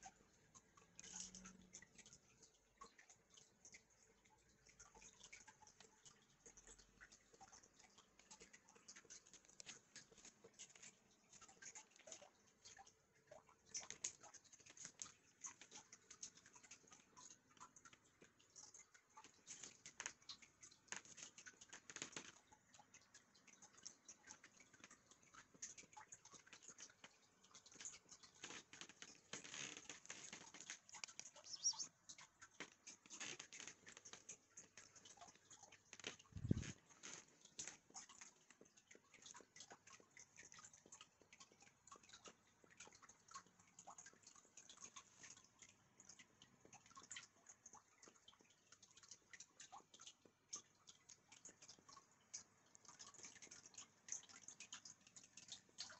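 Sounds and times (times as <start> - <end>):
faint clicks and rustles: 0.0 - 55.9.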